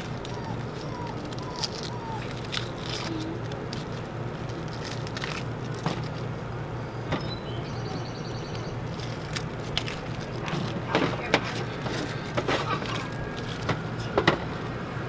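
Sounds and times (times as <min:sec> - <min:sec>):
dry onion skin crackling: 0:00.0 - 0:06.5, 0:08.5 - 0:14.8.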